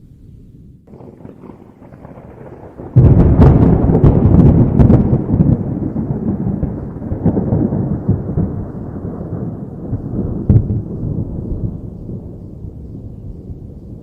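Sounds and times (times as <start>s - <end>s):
rolling thunder: 0.4s - 14.0s
sharp thunder crack: 0.9s - 14.0s.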